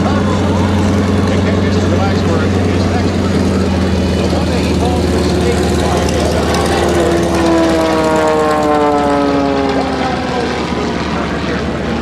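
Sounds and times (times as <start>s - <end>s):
propeller plane passing by: 0.0s - 12.0s.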